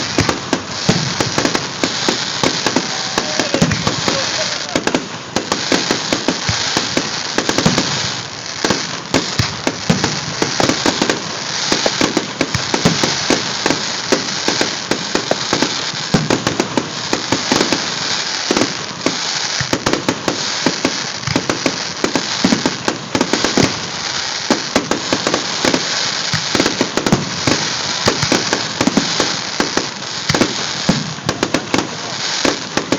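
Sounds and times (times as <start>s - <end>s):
fireworks bangs and crackling: 0.0s - 32.9s.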